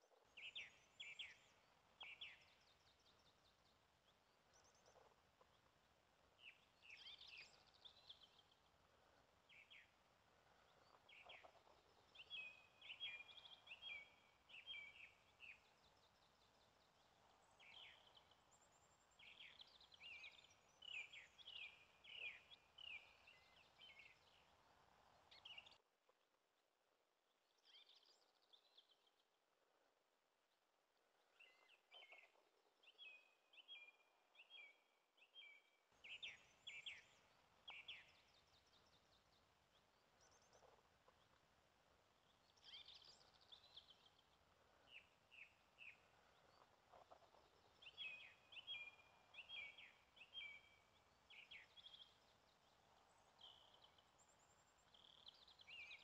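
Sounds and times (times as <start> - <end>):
soft background hiss: 0.0 - 56.0
songbirds singing and chirping: 0.0 - 56.0.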